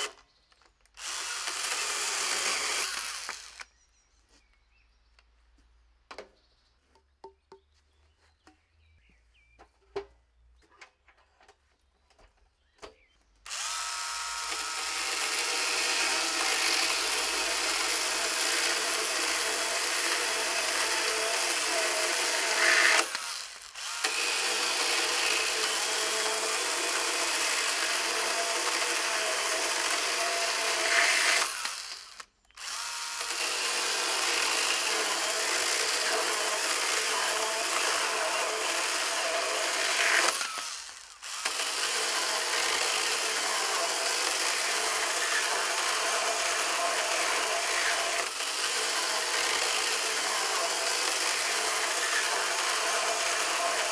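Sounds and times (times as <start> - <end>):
battery chainsaw cutting log: 0.0 - 0.2, 0.9 - 3.8, 13.5 - 53.9.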